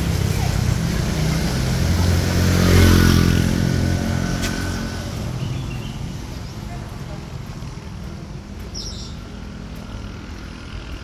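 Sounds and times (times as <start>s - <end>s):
vehicle driving past on wet street: 0.0s - 11.0s.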